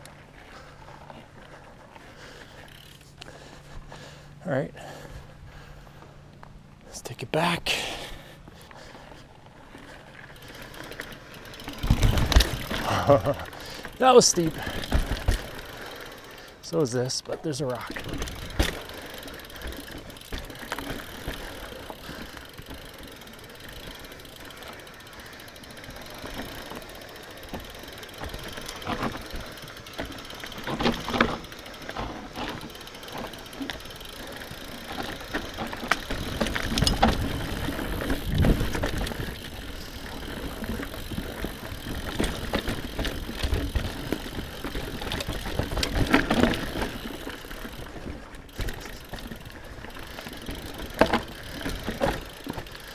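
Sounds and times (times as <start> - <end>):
bike chain and frame rattling: 0.0 - 5.9, 7.7 - 52.9
bike tyres rolling over dirt: 0.0 - 6.8, 7.7 - 52.9.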